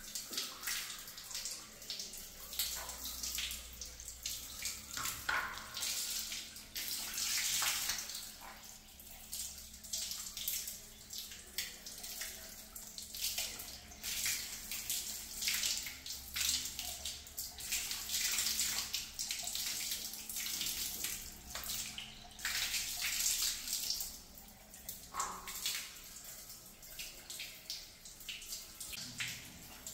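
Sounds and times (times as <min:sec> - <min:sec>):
water splashing on tiled floor: 0:00.1 - 0:26.2.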